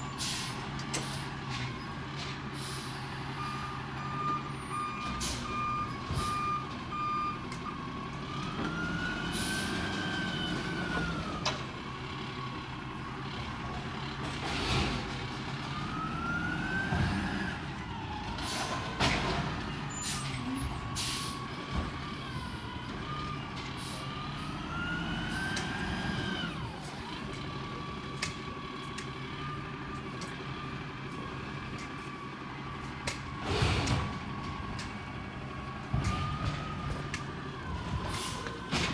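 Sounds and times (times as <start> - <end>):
truck engine hum: 0.0 - 38.9.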